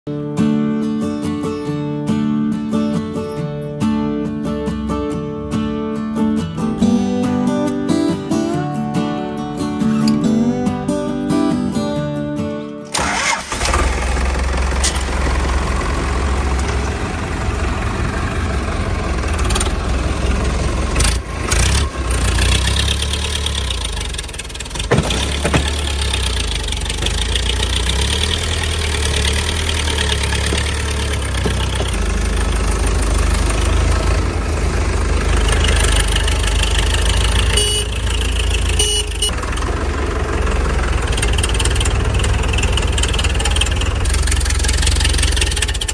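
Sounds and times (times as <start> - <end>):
tractor engine running: 3.2 - 45.9.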